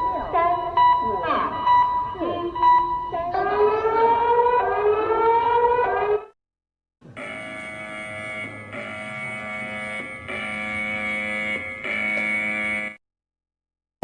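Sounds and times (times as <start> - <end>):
buzzy alarm drone: 0.0 - 6.3, 7.1 - 13.0.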